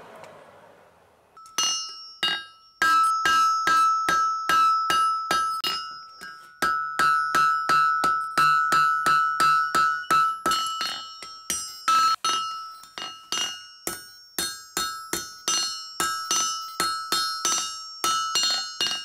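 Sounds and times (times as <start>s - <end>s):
hammer ringing on anvil: 1.4s - 19.0s.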